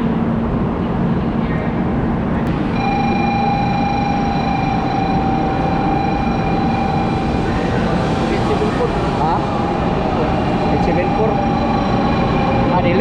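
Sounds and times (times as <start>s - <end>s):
train running rumble: 0.4s - 13.0s
steady high whine: 2.2s - 13.0s.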